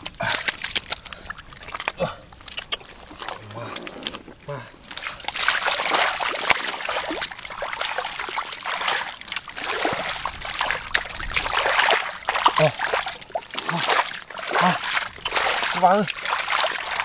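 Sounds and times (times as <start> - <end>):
hands squelching through mud: 0.0 - 17.0.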